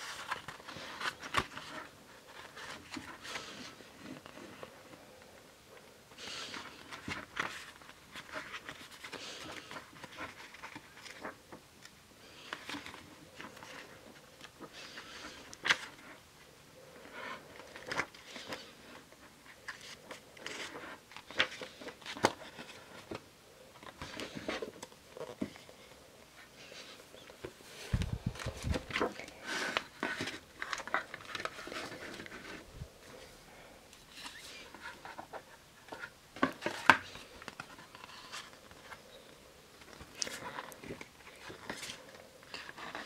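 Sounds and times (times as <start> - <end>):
paper pages rustling: 0.0 - 5.0, 6.1 - 16.2, 16.9 - 43.0.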